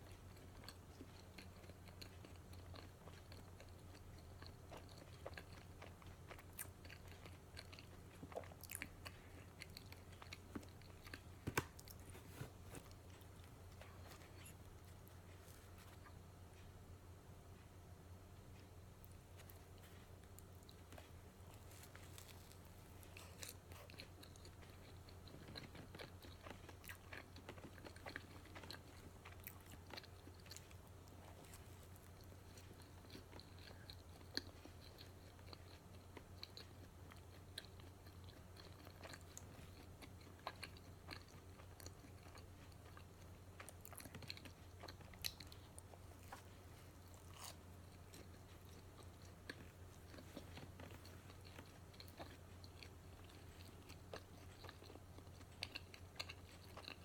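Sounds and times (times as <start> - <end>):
person chewing food: 0.0 - 16.8, 18.4 - 57.0.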